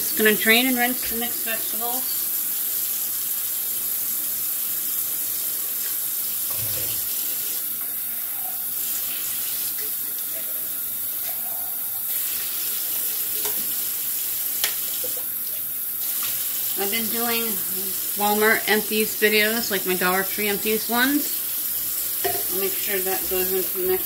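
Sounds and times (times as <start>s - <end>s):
kitchen tap running into colander: 0.0s - 24.0s.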